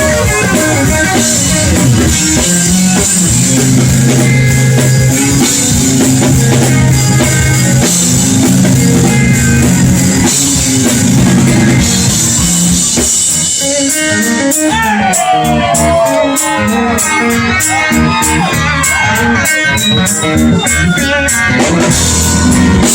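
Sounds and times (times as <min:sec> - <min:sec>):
drum kit: 0:00.0 - 0:22.9
electric guitar: 0:00.0 - 0:22.9.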